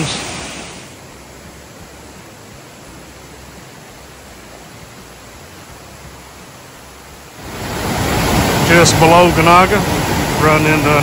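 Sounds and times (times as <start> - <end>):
stream water tumbling over rocks: 0.0 - 11.0
waterfall rushing: 0.0 - 11.0.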